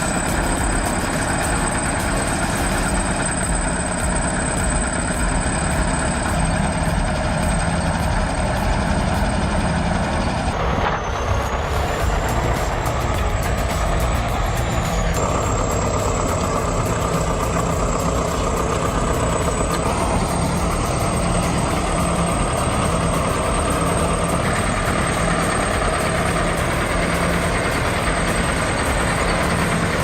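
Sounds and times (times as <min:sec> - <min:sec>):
heavy diesel machinery running: 0:00.0 - 0:30.0.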